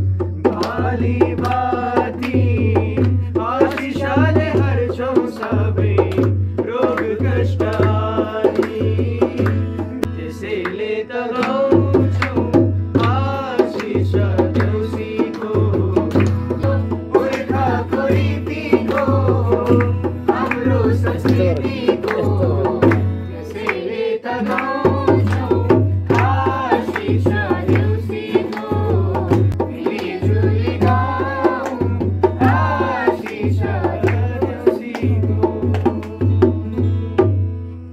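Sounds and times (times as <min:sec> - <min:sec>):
barrel drum beating: 0:00.0 - 0:10.1, 0:11.7 - 0:23.3, 0:24.4 - 0:37.6
voices singing folk song: 0:00.0 - 0:36.9
strummed acoustic guitar: 0:00.0 - 0:37.9
hand claps: 0:00.3 - 0:36.7.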